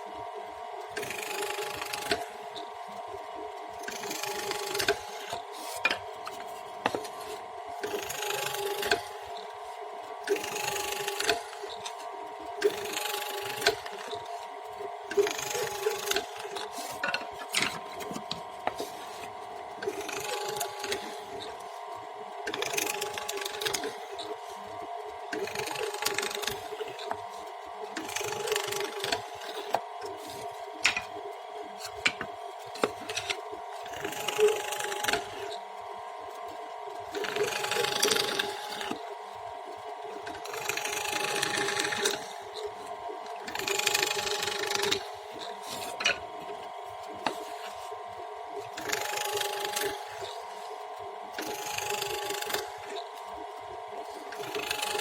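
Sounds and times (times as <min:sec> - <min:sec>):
electric woodworking tool humming: 0:00.0 - 0:55.0.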